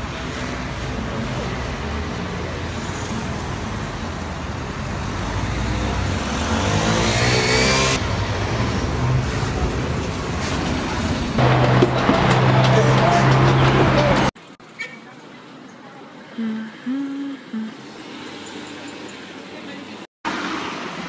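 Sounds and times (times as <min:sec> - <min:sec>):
street traffic passing: 0:00.0 - 0:21.0.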